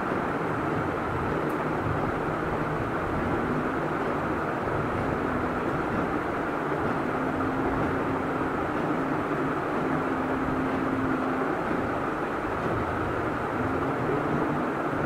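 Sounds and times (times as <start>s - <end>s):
faint held hum: 0.0s - 15.0s
steady rushing noise: 0.0s - 15.0s.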